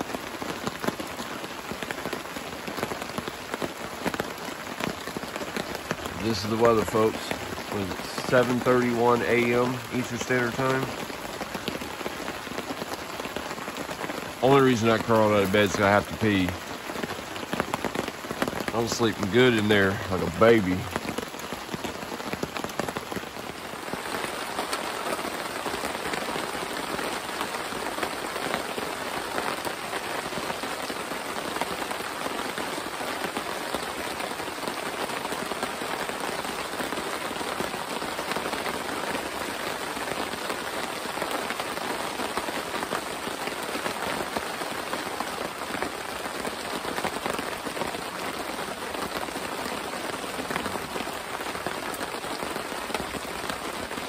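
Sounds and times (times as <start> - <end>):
rain on leaves: 0.0 - 54.0
rain pattering on a tarp: 0.0 - 54.0.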